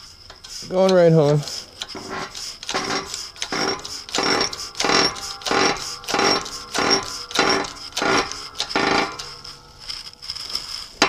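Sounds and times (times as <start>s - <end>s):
hydraulic press pumping strokes: 0.0s - 11.0s.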